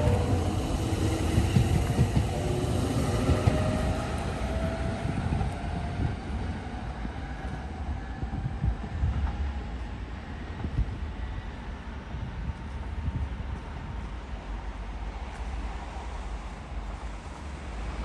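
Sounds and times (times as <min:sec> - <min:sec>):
train rumbling on tracks: 0:00.0 - 0:18.0.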